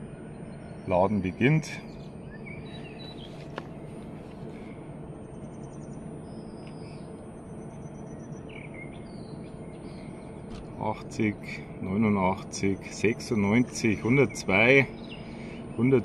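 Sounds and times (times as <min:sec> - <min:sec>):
birds chirping faintly: 0:00.0 - 0:16.0
low background rumble: 0:00.0 - 0:16.0.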